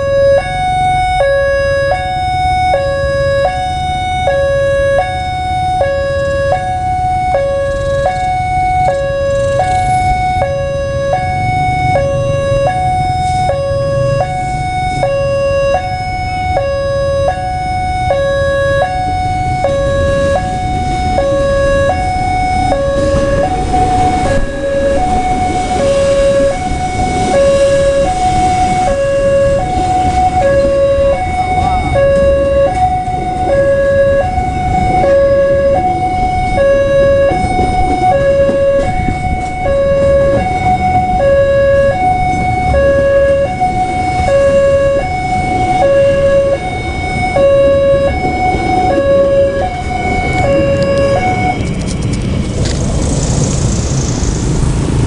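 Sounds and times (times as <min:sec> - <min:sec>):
level crossing alarm two-tone: 0:00.0 - 0:51.8
passenger train rumbling past: 0:00.0 - 0:55.0.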